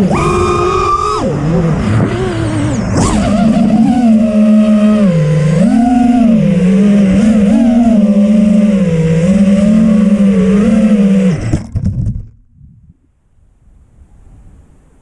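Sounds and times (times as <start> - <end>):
drone motors and propellers whining: 0.0 - 12.4.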